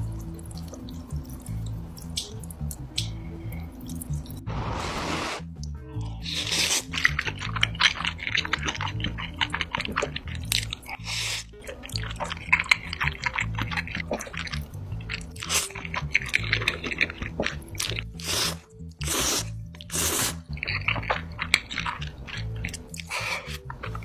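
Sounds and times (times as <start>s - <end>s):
chewing with crunchy bites: 0.0s - 4.5s, 6.0s - 24.0s
background music with steady beat: 0.0s - 24.0s.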